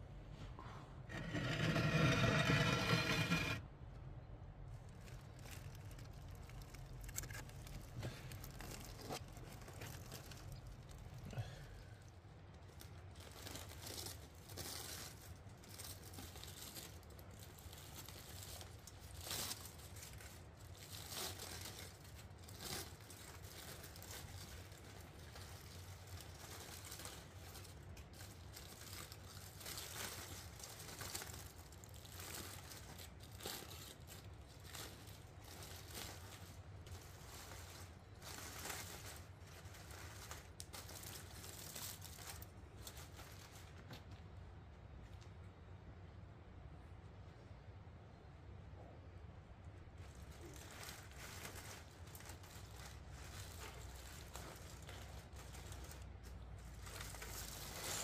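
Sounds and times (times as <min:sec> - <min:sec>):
aluminium foil crinkling: 0:04.6 - 0:44.4, 0:49.9 - 0:58.0.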